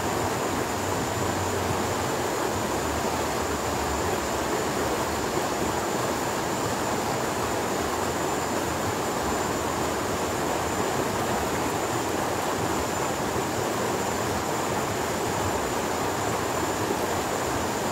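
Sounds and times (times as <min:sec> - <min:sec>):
river rushing over rocks: 0:00.0 - 0:17.9.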